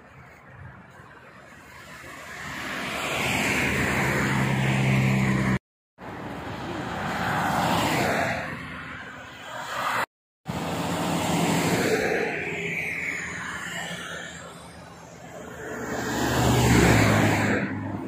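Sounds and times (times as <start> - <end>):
vehicles passing on motorway: 0.0 - 18.0.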